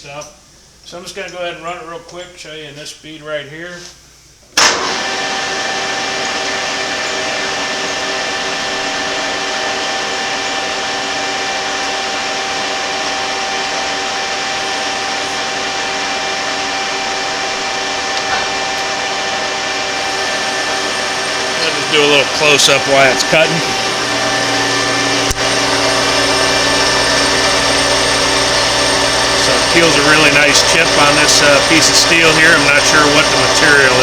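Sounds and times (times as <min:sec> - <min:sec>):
lathe running with whine: 0:04.6 - 0:34.0.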